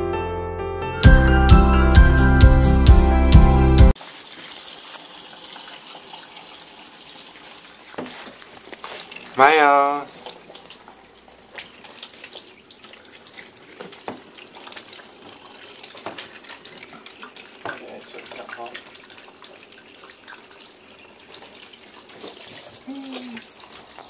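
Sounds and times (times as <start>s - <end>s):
small water splashes: 4.0s - 24.0s.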